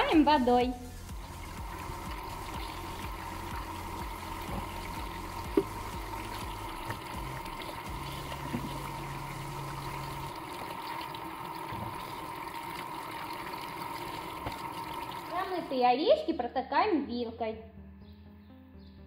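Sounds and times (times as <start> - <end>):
tap water running into metal bowl: 0.0 - 15.8.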